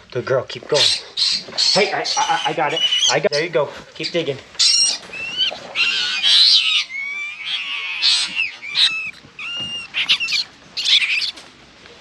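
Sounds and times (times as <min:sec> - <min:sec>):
rats squealing and squeaking: 0:00.7 - 0:11.5.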